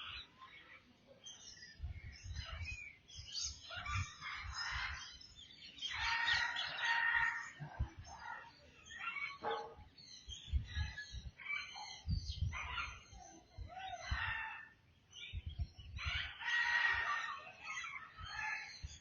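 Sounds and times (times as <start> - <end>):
birds calling and chirping: 0.0 - 19.0.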